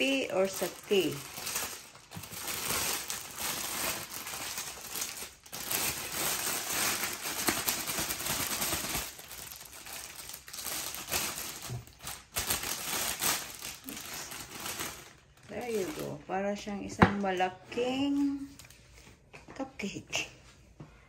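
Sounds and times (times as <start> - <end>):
cellophane bag crinkling: 0.0 - 16.2, 17.7 - 19.0.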